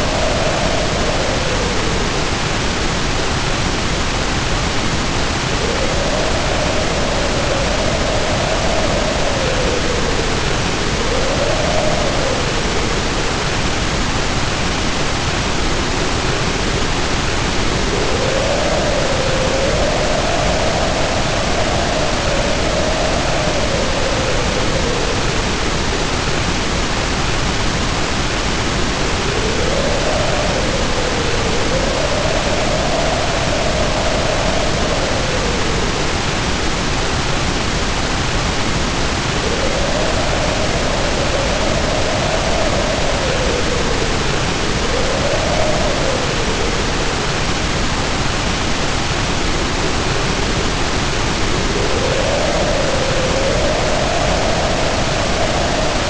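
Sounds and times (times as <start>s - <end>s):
heavy rain pouring: 0.0s - 56.0s
wind howling: 0.0s - 56.0s.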